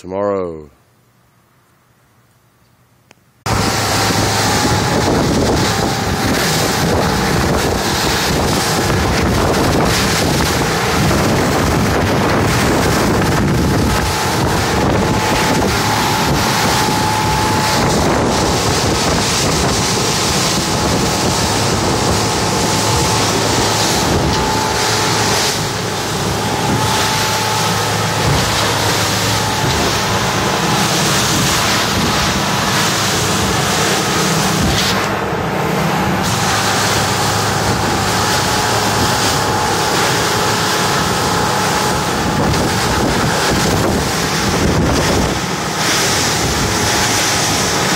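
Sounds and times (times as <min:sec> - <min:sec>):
motorboat engine drone: 0:03.3 - 0:47.9
rushing water: 0:03.4 - 0:47.9
wind buffeting microphone: 0:03.4 - 0:47.9.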